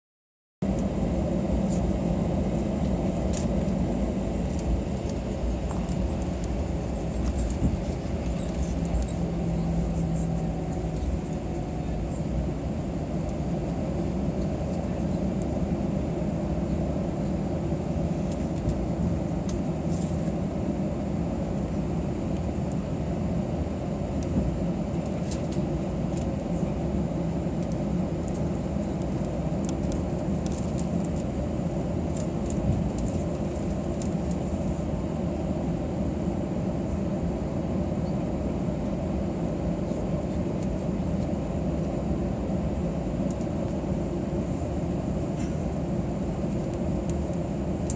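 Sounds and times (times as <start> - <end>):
airplane engines and airflow rumble: 0.6 - 47.9.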